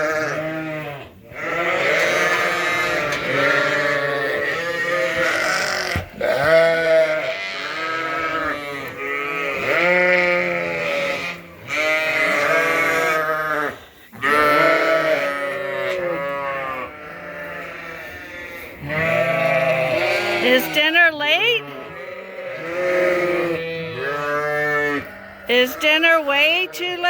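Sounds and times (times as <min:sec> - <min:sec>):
sheep bleating: 0:00.0 - 0:27.0.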